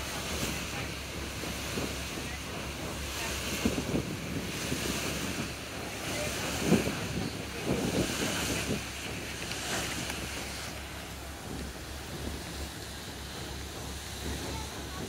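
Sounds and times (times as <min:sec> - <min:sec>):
rushing sea water: 0:00.0 - 0:15.0
wind buffeting microphone: 0:00.0 - 0:15.0.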